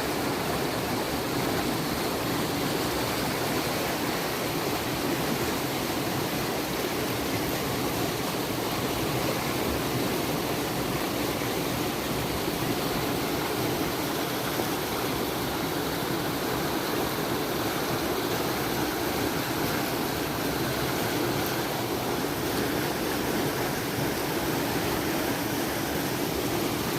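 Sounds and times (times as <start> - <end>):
fast-flowing water rushing: 0.0 - 26.9.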